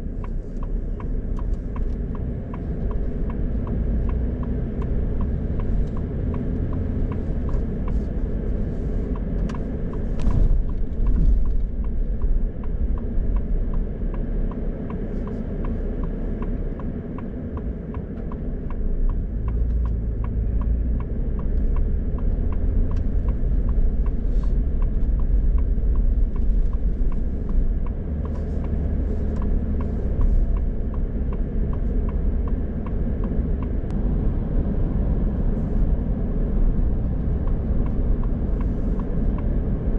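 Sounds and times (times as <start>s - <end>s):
regular ticking: 0.0s - 34.0s
car road rumble: 0.0s - 39.9s.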